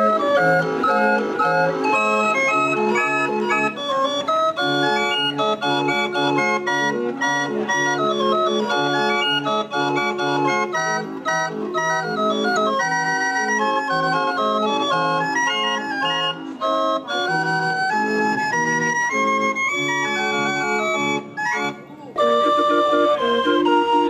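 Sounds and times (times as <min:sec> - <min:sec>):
street organ playing a tune: 0:00.0 - 0:24.0.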